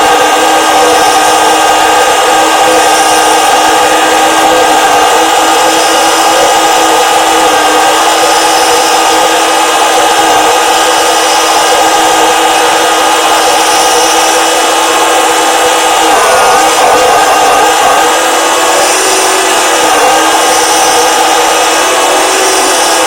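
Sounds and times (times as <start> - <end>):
toy motor and gears whining: 0.0 - 23.0.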